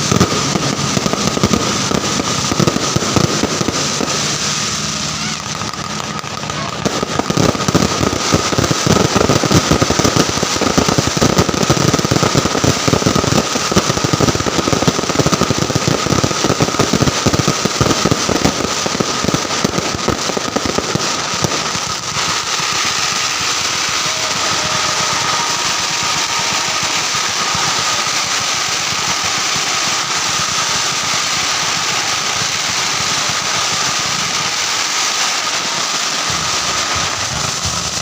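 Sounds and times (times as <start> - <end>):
fireworks crackling and banging: 0.0 - 38.0.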